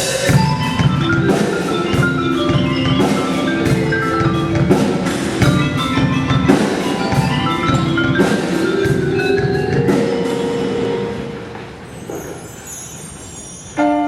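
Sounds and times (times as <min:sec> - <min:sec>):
drums: 0:00.0 - 0:12.7
marimbas playing rapid runs: 0:00.0 - 0:13.4.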